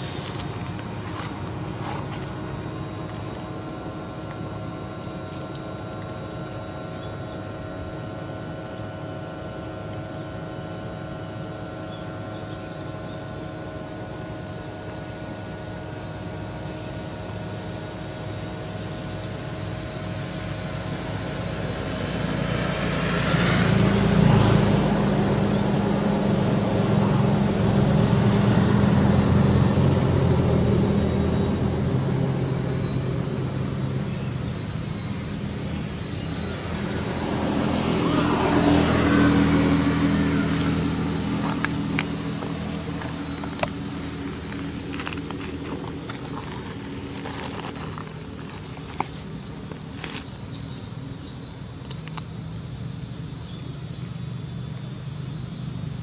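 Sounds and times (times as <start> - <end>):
motor engine humming: 0.0 - 56.0.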